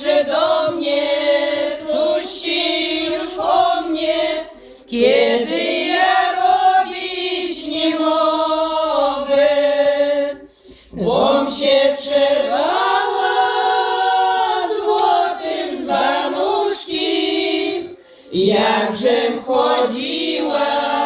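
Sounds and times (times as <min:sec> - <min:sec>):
women singing together unaccompanied: 0:00.0 - 0:21.0.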